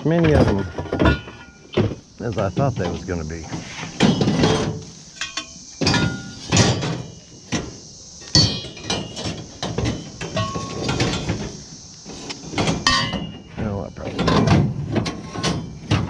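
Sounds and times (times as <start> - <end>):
scrap metal clanking: 0.0 - 16.0.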